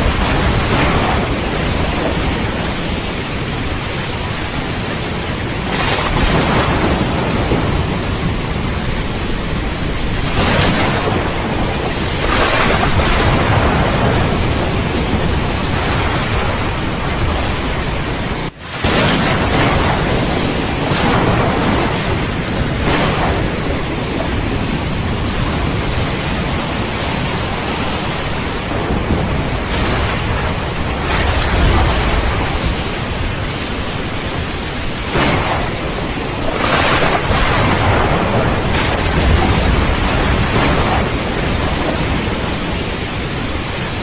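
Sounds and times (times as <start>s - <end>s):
heavy rain: 0.0s - 44.0s
rolling thunder: 0.0s - 44.0s.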